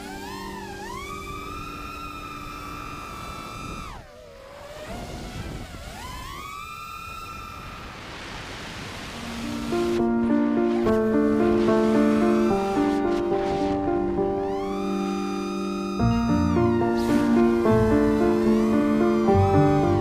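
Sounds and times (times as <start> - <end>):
drone motors whining: 0.0 - 20.0
rising hiss: 0.0 - 20.0.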